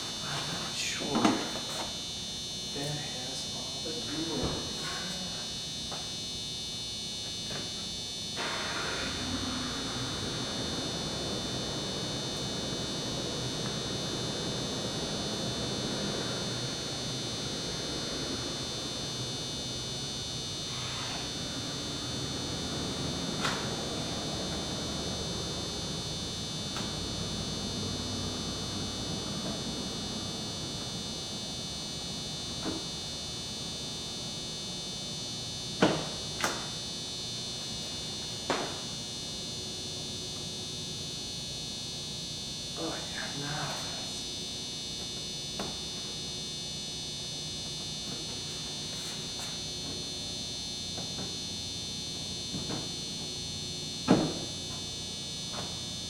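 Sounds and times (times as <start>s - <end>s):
high-pitched electrical buzz: 0.0s - 56.0s.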